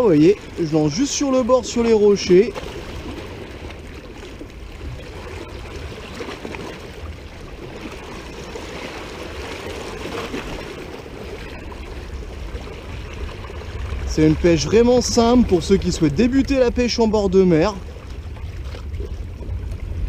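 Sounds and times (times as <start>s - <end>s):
waves splashing over rocks: 0.0s - 20.0s.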